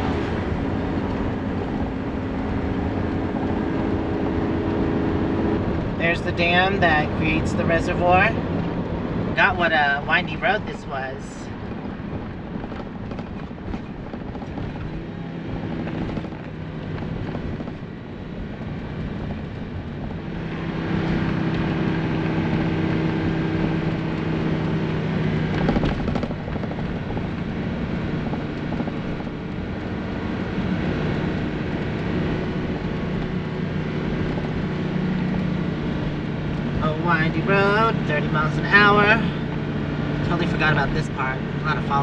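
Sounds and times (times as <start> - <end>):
engine and road noise: 0.0 - 42.0.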